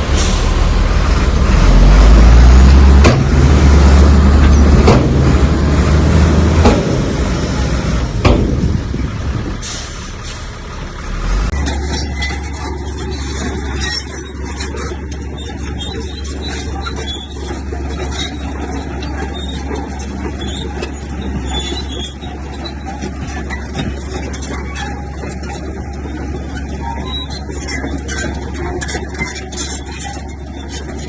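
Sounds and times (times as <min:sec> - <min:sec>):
bulldozer diesel engine working: 0:00.0 - 0:31.0.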